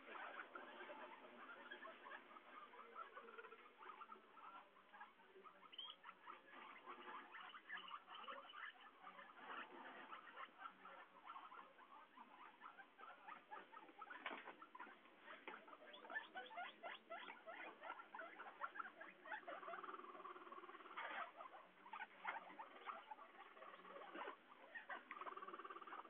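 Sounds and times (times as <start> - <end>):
guinea pig squeaks: 0.0 - 26.0
guinea pig squeal: 0.0 - 26.0
guinea pigs rustling in hay: 0.0 - 26.0.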